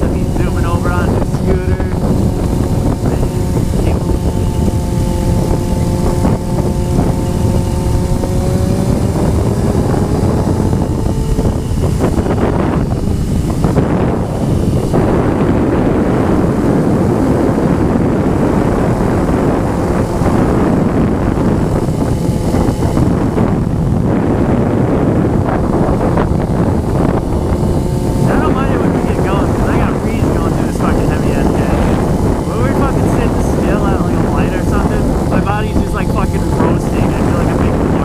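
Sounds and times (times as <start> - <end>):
motorcycle engine: 0.0 - 38.0
wind buffeting microphone: 0.0 - 38.0.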